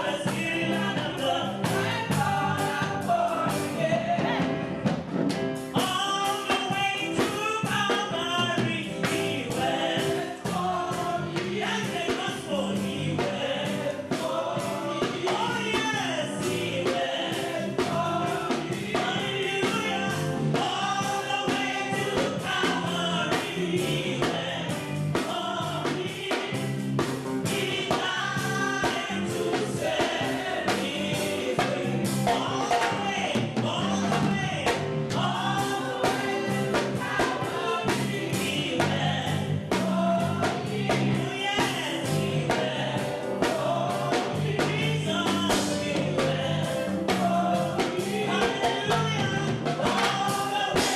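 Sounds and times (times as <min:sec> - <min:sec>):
gospel singers with instruments: 0:00.0 - 0:50.9.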